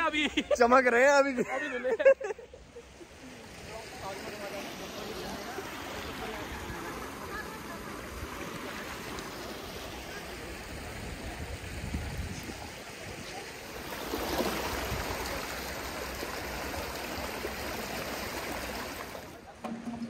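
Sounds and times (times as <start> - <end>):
fast-flowing water rushing: 2.6 - 20.0.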